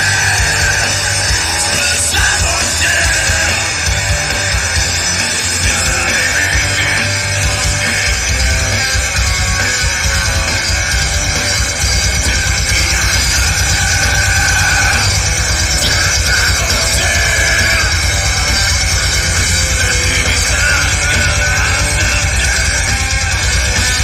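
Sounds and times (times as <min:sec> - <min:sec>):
live punk rock band: 0:00.0 - 0:24.0.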